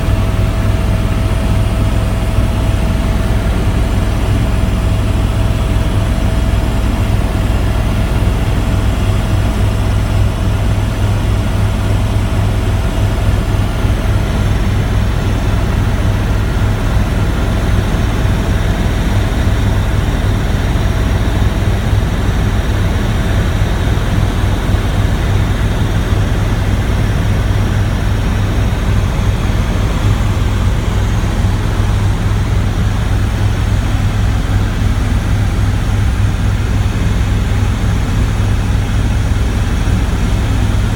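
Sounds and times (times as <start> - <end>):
helicopter rotor noise: 0.0 - 40.9.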